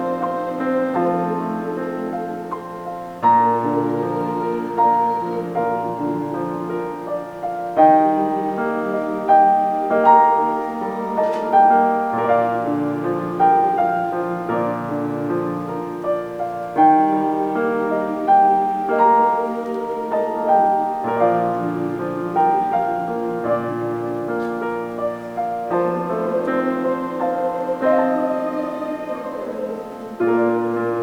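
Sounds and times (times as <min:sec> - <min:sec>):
piano playing slow chords: 0:00.0 - 0:31.0.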